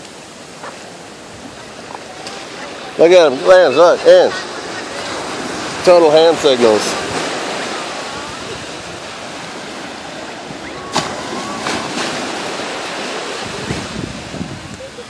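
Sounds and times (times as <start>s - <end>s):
waves washing on beach: 0.0s - 15.0s.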